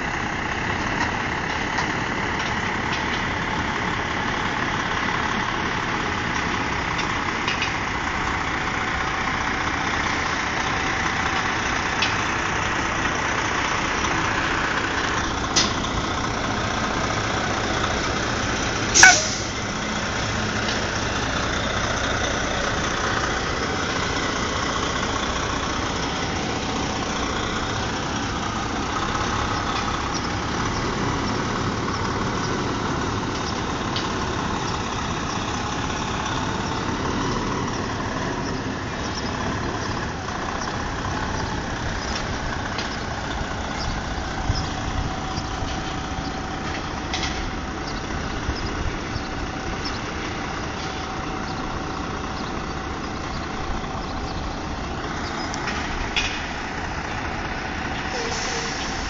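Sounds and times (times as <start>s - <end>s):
truck diesel engine running: 0.0s - 59.0s.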